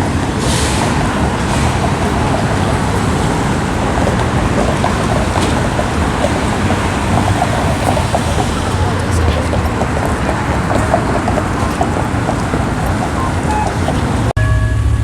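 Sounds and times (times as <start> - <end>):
light-rail train rumbling: 0.0 - 15.0.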